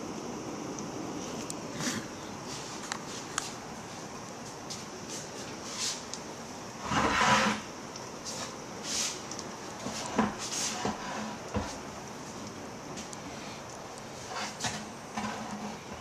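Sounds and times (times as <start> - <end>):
heavy rain downpour: 0.0 - 16.0.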